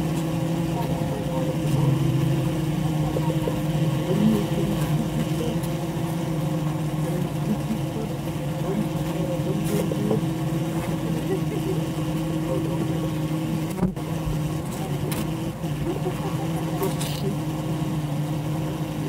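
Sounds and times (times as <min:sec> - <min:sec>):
bees droning in hive: 0:00.0 - 0:19.0
individual bees buzzing past: 0:00.0 - 0:19.0.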